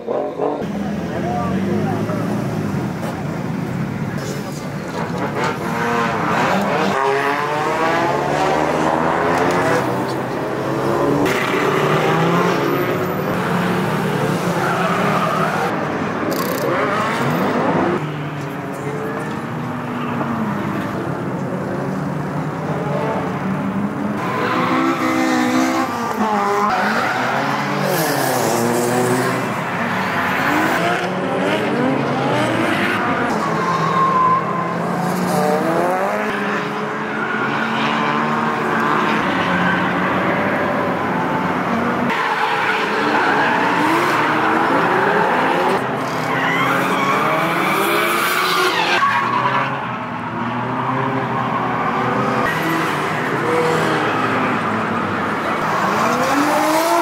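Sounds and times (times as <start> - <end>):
car engines revving: 0.0 - 57.0
tyres skidding and squealing: 0.0 - 57.0.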